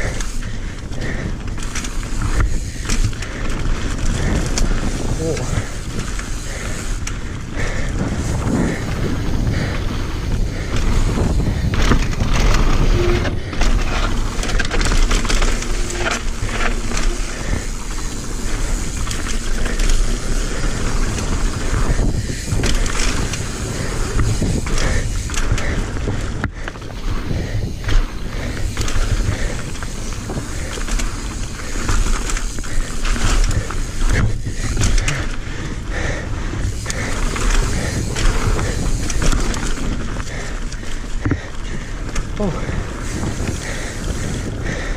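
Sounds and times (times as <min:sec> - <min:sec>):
bike rattling and clattering: 0:00.0 - 0:44.9
bike tyres crunching over dirt: 0:00.0 - 0:44.9.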